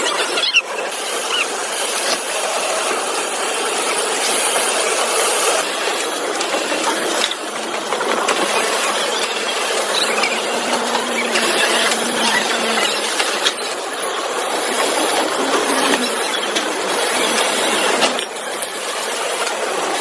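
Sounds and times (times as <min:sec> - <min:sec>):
industrial machinery hissing clatter: 0:00.0 - 0:20.0.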